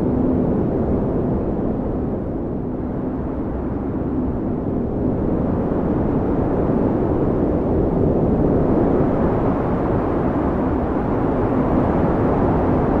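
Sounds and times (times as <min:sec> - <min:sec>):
blizzard wind howling: 0:00.0 - 0:13.0.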